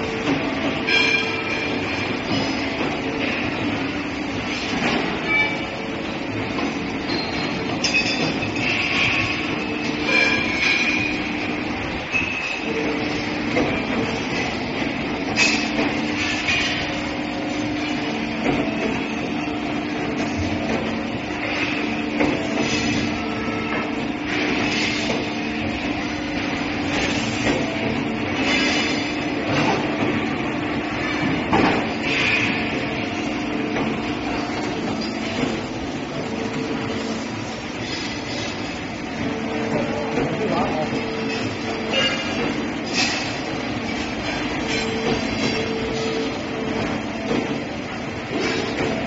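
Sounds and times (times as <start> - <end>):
tube bending machine hum: 0.0 - 49.0.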